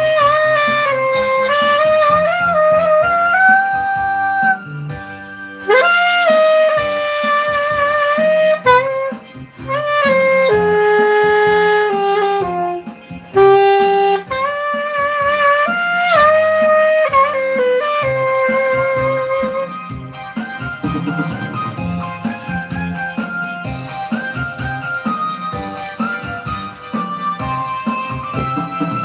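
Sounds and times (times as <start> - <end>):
saxophone slow melody: 0.0 - 29.0
soft low accompaniment: 0.0 - 29.0.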